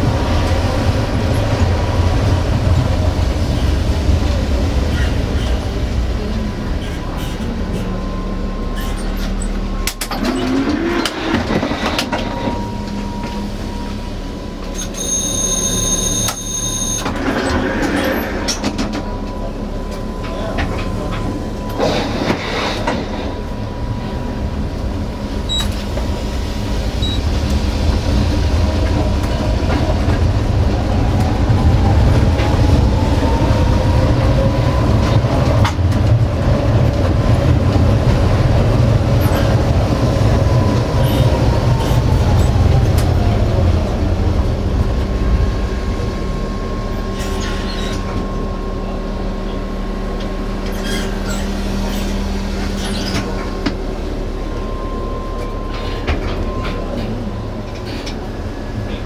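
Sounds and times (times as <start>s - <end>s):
tram motor whine: 0.0s - 59.0s
tram wheels rumbling on rails: 0.0s - 59.0s.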